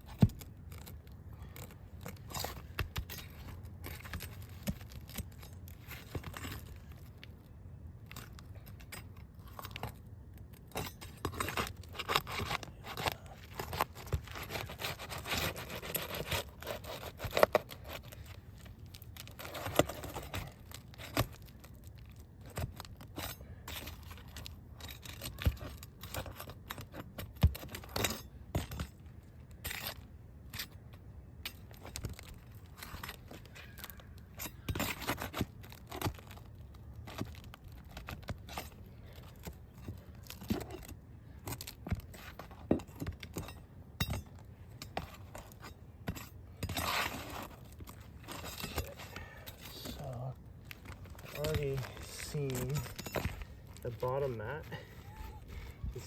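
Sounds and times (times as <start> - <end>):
shingles scraping and tearing: 0.0 - 7.4, 8.0 - 56.0.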